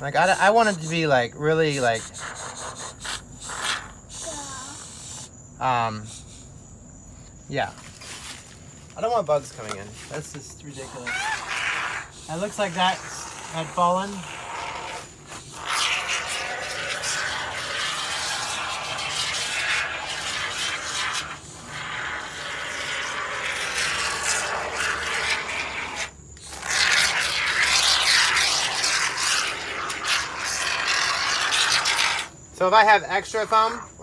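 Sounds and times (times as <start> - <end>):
aerosol foam spraying: 0.2 - 5.3, 10.1 - 32.3.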